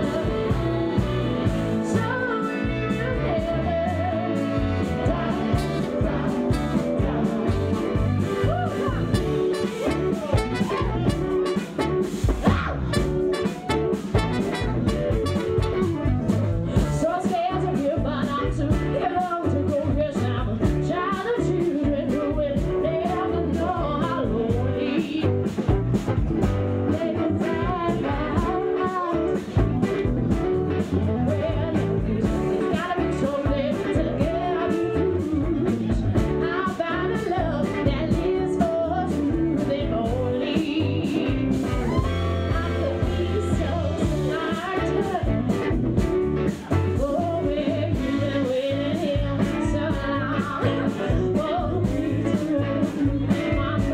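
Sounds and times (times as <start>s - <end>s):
blues rock band playing: 0.0s - 53.9s
woman singing lead: 0.0s - 53.9s.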